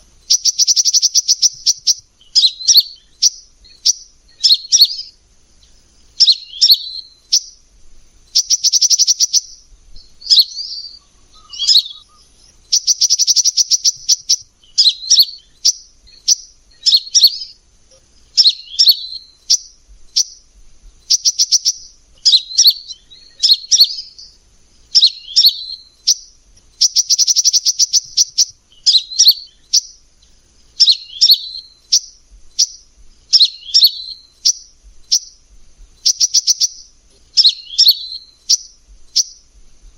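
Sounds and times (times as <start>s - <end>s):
bird rattling trill: 0.0s - 5.1s, 8.2s - 17.5s, 18.3s - 30.0s, 30.7s - 39.4s
bird chirping: 0.0s - 39.9s.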